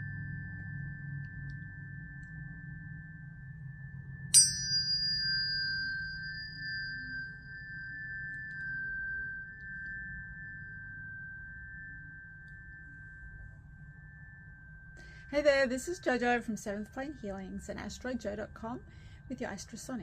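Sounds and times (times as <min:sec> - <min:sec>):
tuning fork steady high tone: 0:00.0 - 0:20.0
tuning fork struck ringing: 0:00.0 - 0:20.0.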